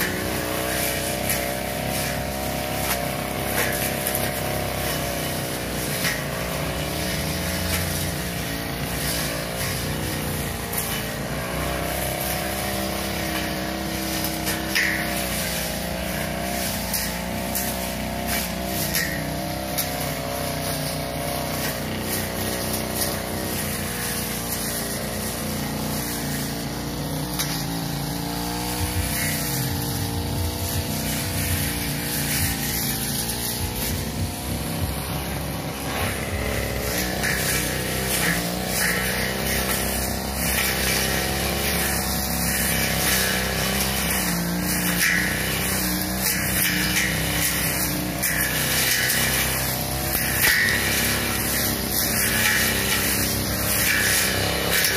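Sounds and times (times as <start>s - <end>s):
brush cutter engine running: 0.0s - 54.9s.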